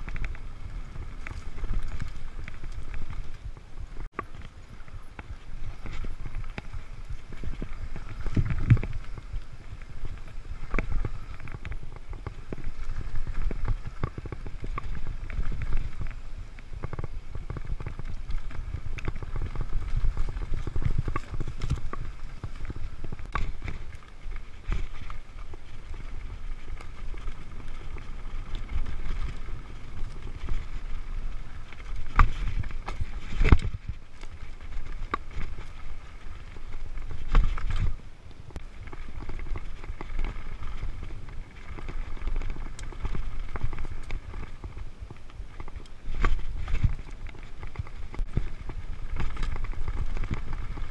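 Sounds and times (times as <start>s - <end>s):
bike rattling and clicking: 0.0s - 50.9s
bike tyres rumbling on dirt: 0.0s - 50.9s.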